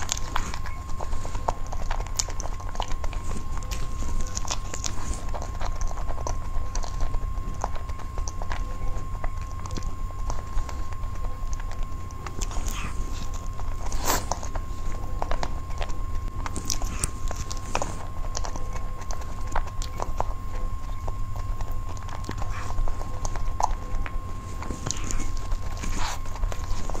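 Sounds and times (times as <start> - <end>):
close chewing and mouth smacks: 0.0 - 27.0
low steady hum: 0.0 - 27.0.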